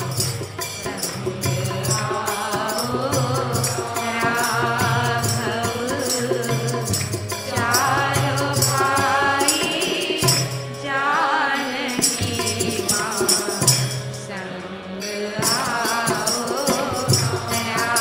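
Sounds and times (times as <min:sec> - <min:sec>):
jingling hand percussion: 0:00.0 - 0:18.0
person singing devotional song: 0:00.0 - 0:18.0.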